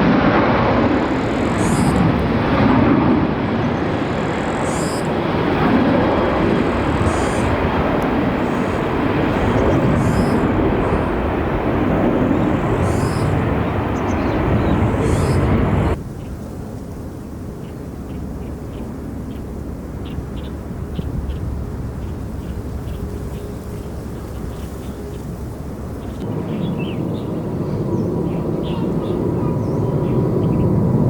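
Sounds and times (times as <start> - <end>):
jet airliner engine noise: 0.0 - 31.0.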